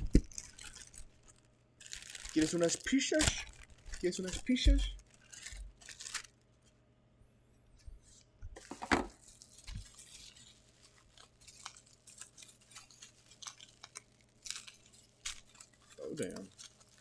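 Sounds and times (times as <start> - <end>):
packaging crinkling rip: 0.0 - 6.4, 8.6 - 17.0
plastic and cardboard crackling: 0.0 - 6.6, 8.6 - 17.0.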